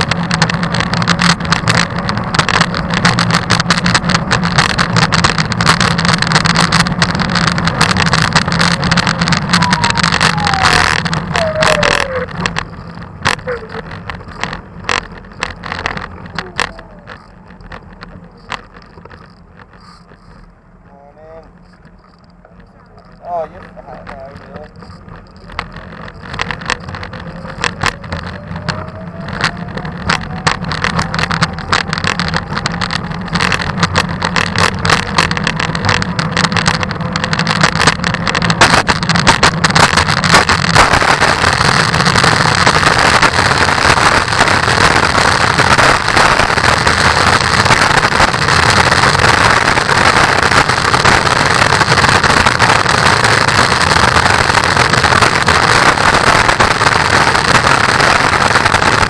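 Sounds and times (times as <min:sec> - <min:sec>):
road noise on asphalt: 0:00.0 - 0:59.0
wheels clicking over wooden bridge: 0:00.0 - 0:59.0.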